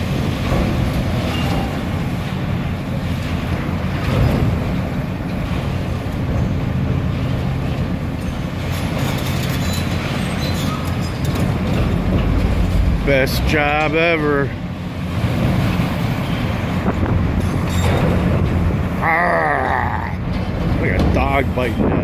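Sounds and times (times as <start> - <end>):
subway train rumbling in tunnel: 0.0 - 22.0.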